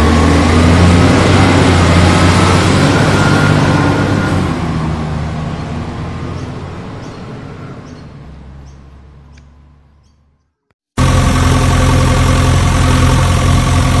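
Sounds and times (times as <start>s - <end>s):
heavy truck engine running: 0.0s - 9.8s, 11.0s - 14.0s.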